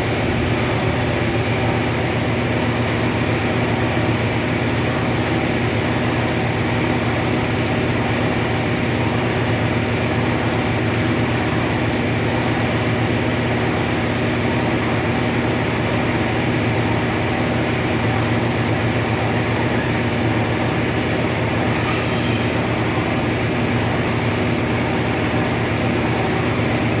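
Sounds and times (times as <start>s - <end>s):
spin-dryer drone: 0.0s - 27.0s.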